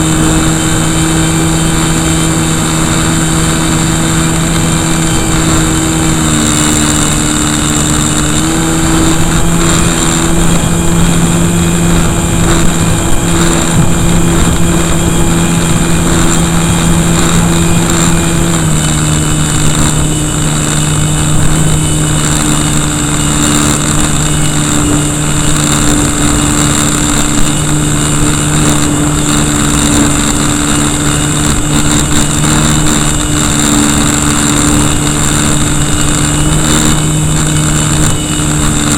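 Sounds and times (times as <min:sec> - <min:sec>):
electric motor and propeller humming: 0:00.0 - 0:38.9
wind rushing across microphone: 0:00.0 - 0:38.9.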